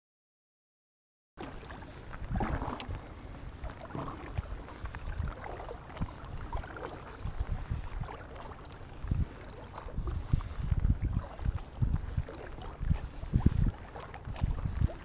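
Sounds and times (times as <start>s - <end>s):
paddle blades splashing: 1.4s - 15.0s
water swishing past hull: 1.4s - 15.0s.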